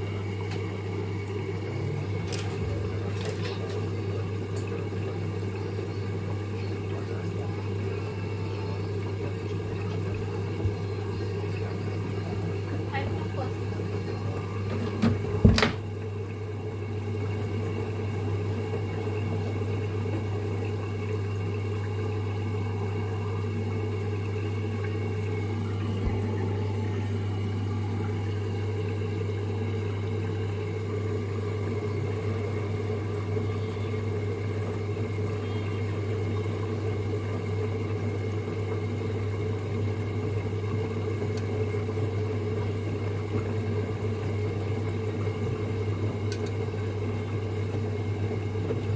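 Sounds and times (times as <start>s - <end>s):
washing machine humming: 0.0s - 48.9s.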